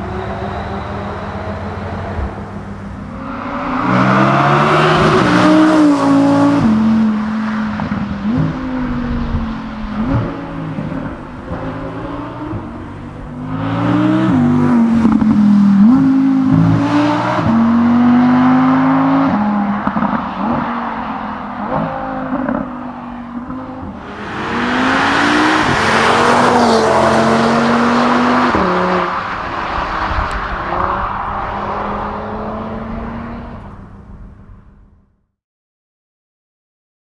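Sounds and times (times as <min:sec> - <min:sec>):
car engine accelerating hard: 0:00.0 - 0:34.7.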